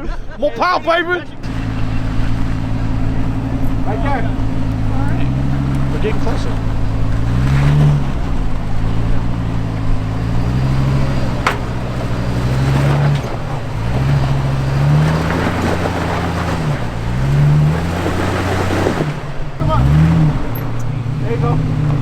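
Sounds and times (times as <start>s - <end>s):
truck engine revving: 0.9s - 22.0s.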